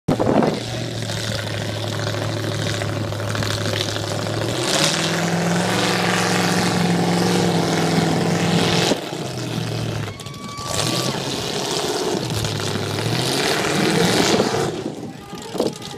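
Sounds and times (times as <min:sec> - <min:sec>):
truck engine running hard: 0:00.1 - 0:15.9.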